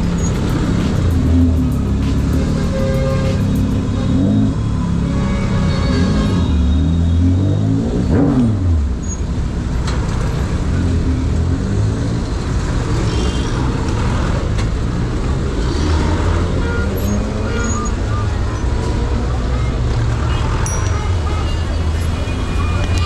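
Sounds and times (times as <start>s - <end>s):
vehicle engines rumbling: 0.0s - 23.0s.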